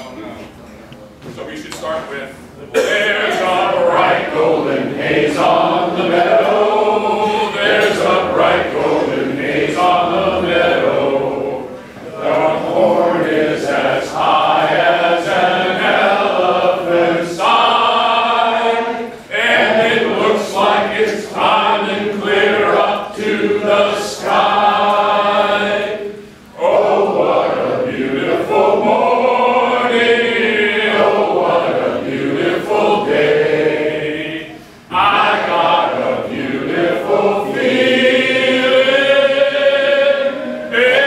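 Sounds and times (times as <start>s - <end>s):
group of people singing: 2.7s - 41.0s.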